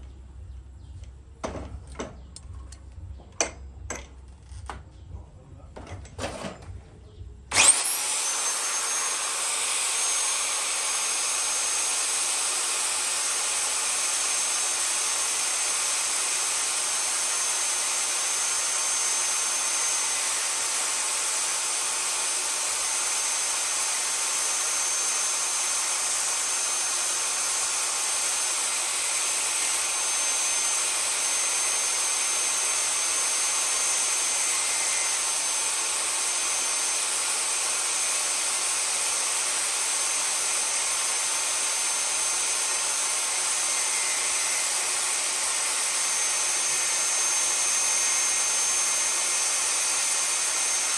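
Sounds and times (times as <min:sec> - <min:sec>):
power tool motor whine: 0:07.5 - 0:50.9.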